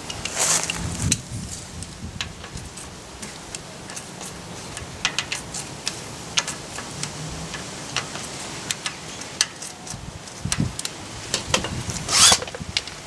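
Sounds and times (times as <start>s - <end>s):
hand tools clicking on metal: 2.2s - 13.0s.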